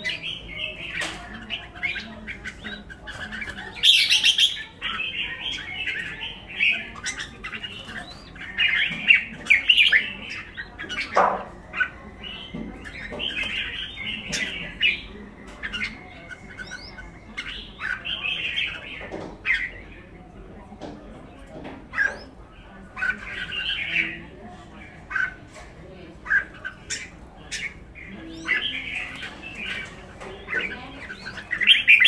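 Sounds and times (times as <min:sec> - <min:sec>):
birds chattering and calling: 0:00.0 - 0:32.0.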